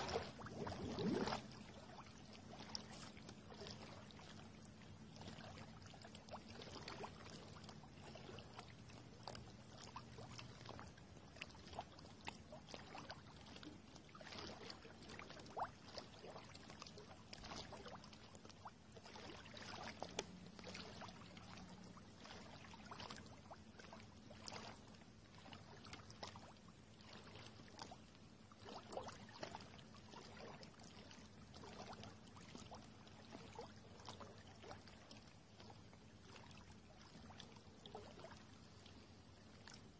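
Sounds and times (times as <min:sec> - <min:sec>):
river water trickling and lapping: 0:00.0 - 0:39.9
small water splashes: 0:00.0 - 0:39.9.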